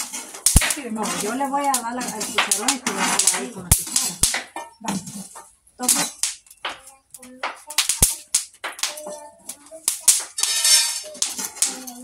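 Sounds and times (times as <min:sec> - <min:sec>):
metal spatula scraping seeds: 0:00.0 - 0:07.2, 0:07.8 - 0:12.0.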